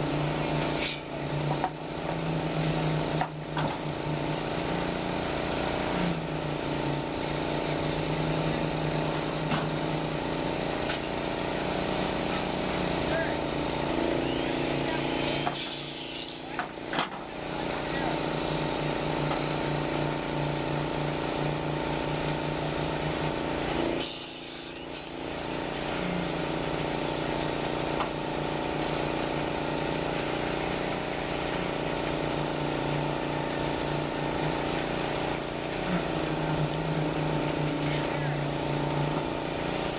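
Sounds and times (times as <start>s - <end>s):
concrete mixer truck drone: 0.0s - 39.9s.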